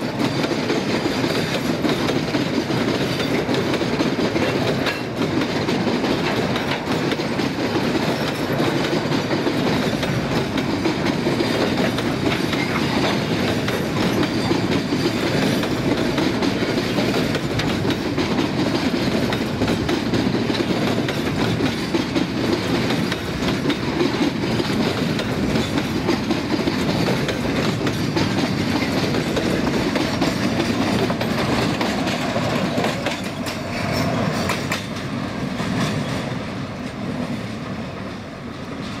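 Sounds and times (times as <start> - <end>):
clickety-clack over rail joints: 0.0 - 39.0
train wheels rumbling on rail: 0.0 - 39.0.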